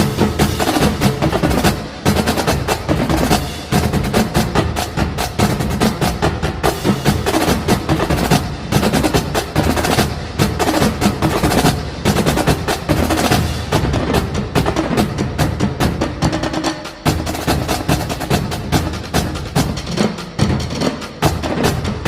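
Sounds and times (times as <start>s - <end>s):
fast percussion music: 0.0s - 22.0s.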